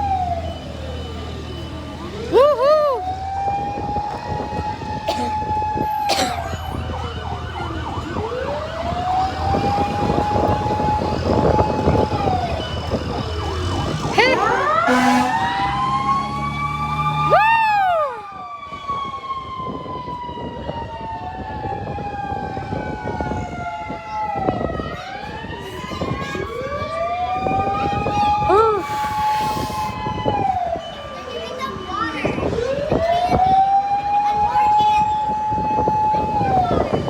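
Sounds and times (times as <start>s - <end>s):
fire truck sirens wailing: 0.0s - 37.0s.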